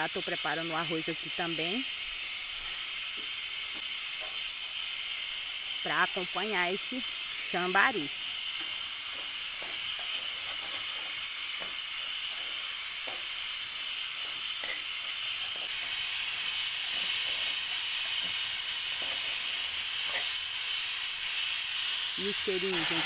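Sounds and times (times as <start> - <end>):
rice sizzling in lard: 0.0 - 23.0.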